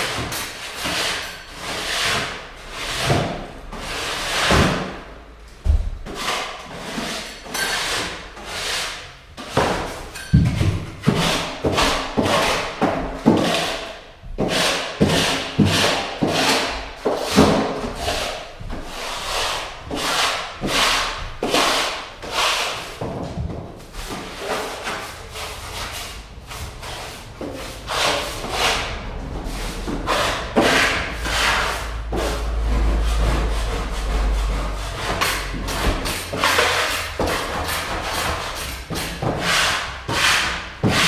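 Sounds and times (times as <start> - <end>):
scraping on wooden floorboards: 0.0 - 41.0.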